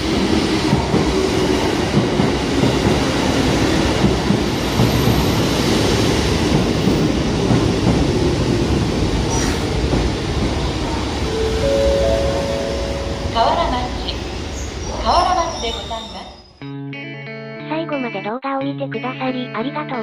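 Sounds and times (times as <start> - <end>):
train wheels rumbling on rails: 0.0 - 16.3.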